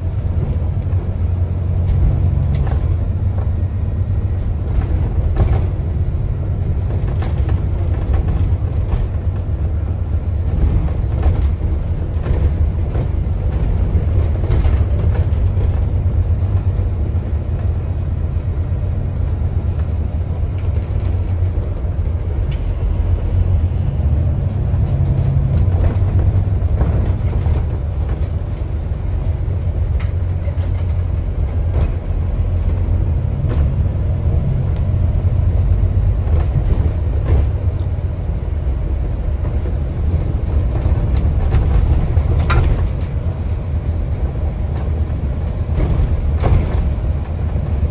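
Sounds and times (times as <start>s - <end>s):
bus low rumble: 0.0s - 47.9s
rattles and knocks of bus body: 0.0s - 47.9s.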